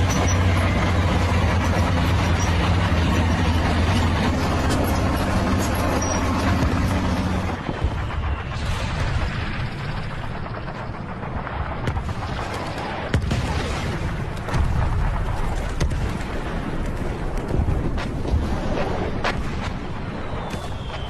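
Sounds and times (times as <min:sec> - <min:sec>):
explosions and artillery rumble: 0:00.0 - 0:21.0.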